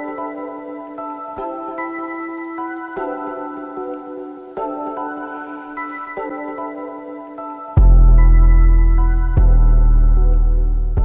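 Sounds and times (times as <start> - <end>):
ringing chords without beat: 0.0 - 11.0.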